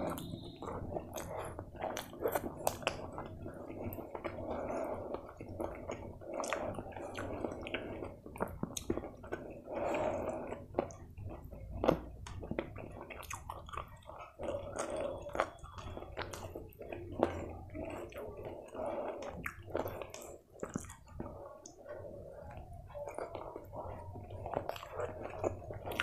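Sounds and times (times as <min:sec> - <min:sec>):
wet chewing and mouth sounds: 0:00.0 - 0:26.0.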